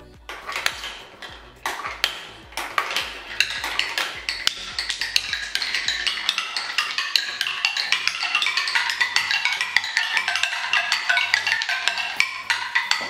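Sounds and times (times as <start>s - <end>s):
marbles striking wooden chimes: 0.0s - 13.0s.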